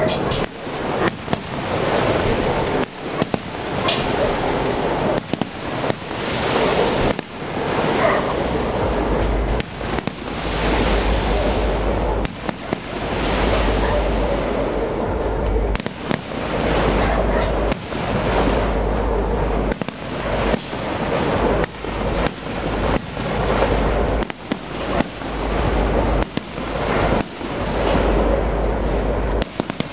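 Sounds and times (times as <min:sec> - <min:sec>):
fireworks bursts: 0:00.0 - 0:08.8, 0:09.5 - 0:15.0, 0:15.7 - 0:29.9
heavy low rumble: 0:00.0 - 0:29.9.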